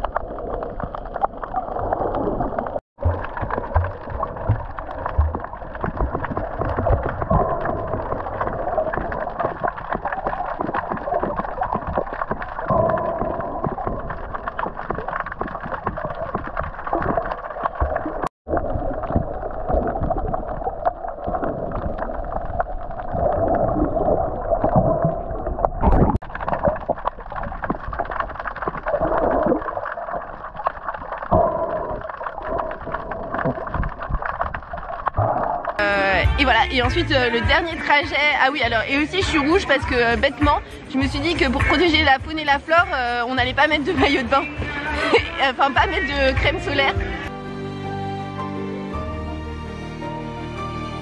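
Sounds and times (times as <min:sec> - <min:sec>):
underwater rushing and gurgling: 0:00.0 - 0:47.3.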